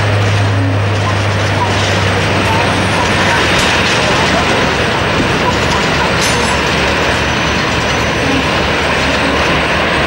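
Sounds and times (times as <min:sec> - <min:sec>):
radial piston engines rumbling: 0:00.0 - 0:10.0.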